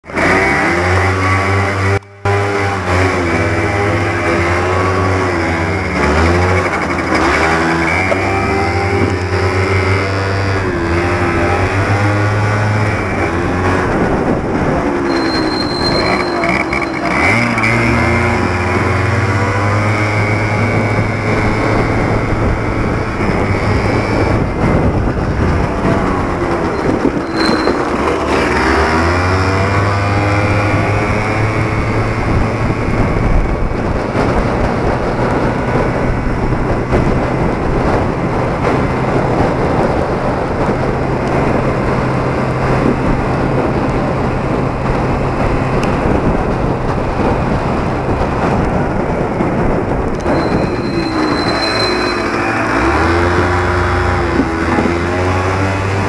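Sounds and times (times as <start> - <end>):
rushing noise: 0.0 - 56.0
scooter engine revving: 0.0 - 56.0.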